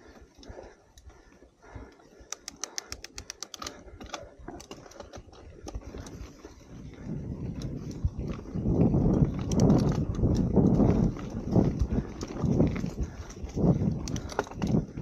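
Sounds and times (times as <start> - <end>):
sharp bike ticks: 0.0 - 15.0
bike rattling over rocky trail: 2.4 - 15.0.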